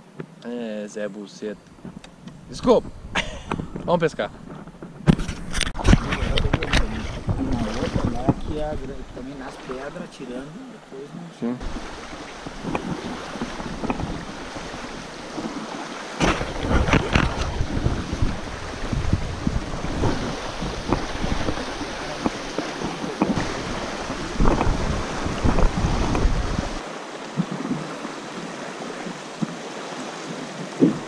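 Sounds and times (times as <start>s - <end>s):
wind buffeting microphone: 1.7s - 10.4s, 11.6s - 29.6s
kayak knocking and splashing: 2.8s - 10.5s, 11.6s - 31.0s
water rushing over rocks: 5.6s - 31.0s.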